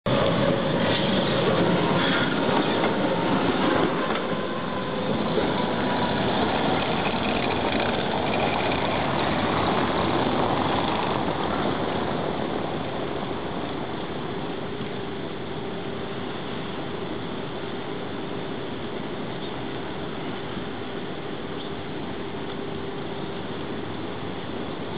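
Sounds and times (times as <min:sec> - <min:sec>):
city traffic noise: 0:00.0 - 0:24.9
tram wheels and motors: 0:00.1 - 0:24.9.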